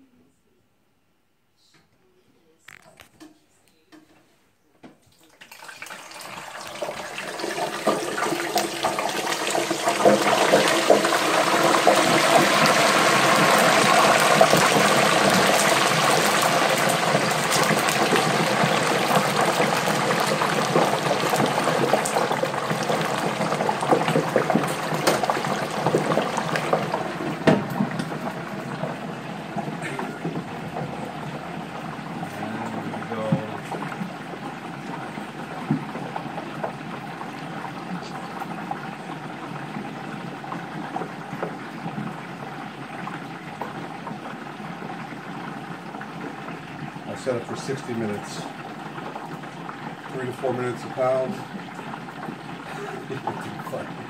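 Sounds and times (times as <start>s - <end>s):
hot oil bubbling and sizzling: 5.4s - 54.0s.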